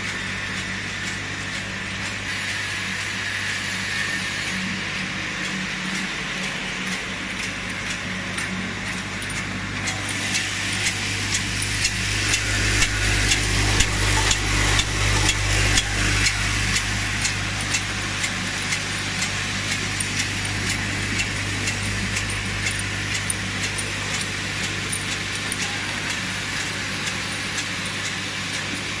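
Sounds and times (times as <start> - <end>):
machine humming: 0.0 - 29.0.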